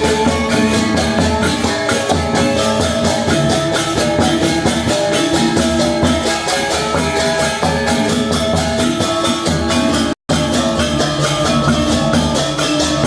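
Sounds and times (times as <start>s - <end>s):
gamelan gong ensemble playing: 0.0s - 13.0s.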